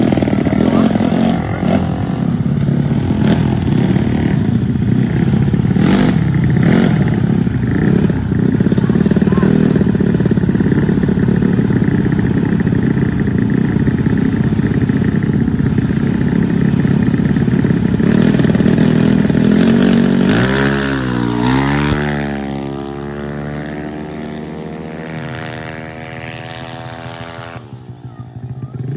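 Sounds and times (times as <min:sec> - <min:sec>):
scooter engine rumbling: 0:00.0 - 0:28.9.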